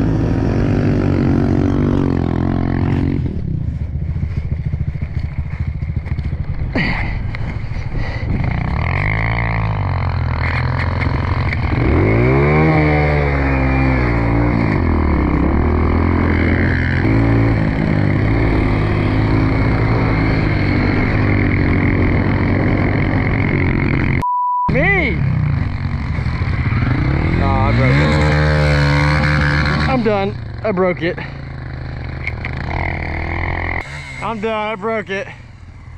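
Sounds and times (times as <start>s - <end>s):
pit bike engines revving: 0.0s - 35.9s.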